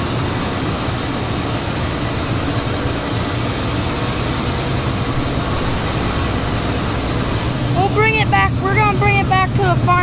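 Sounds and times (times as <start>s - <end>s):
diesel engine running: 0.0s - 10.0s
high-pitched whine: 0.0s - 10.0s.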